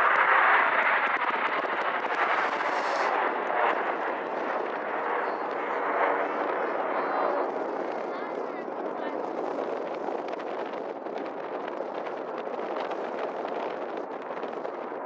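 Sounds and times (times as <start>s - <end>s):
jets roaring overhead: 0.0s - 15.0s.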